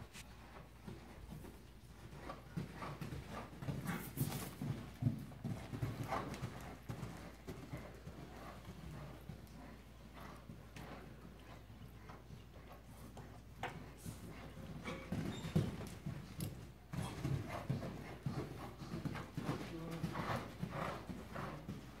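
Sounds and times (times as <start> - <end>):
horse hoofbeats on soft ground: 0.0 - 22.0.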